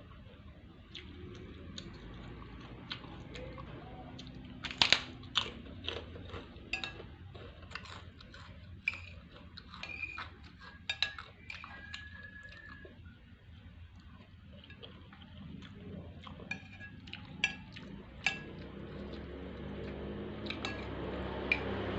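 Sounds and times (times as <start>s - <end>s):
person chewing food: 0.0s - 21.9s.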